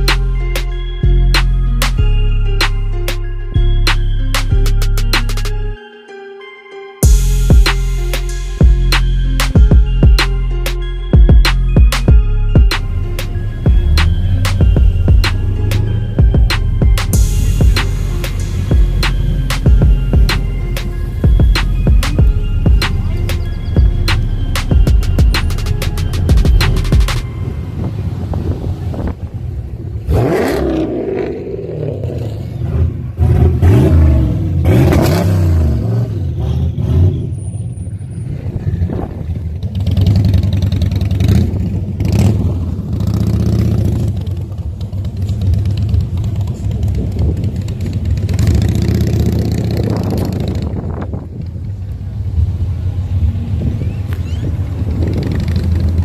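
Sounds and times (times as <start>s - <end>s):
car engines revving: 7.0s - 56.0s.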